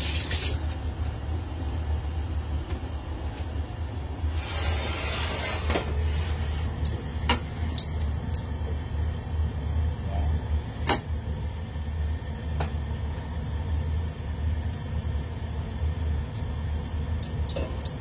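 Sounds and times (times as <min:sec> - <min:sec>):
gas burner rumbling: 0:00.0 - 0:18.0.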